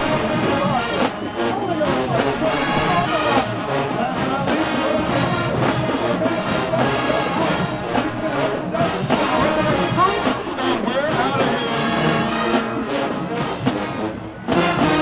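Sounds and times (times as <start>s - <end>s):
brass section melody: 0.0s - 15.0s
marching percussion steady beat: 0.0s - 15.0s.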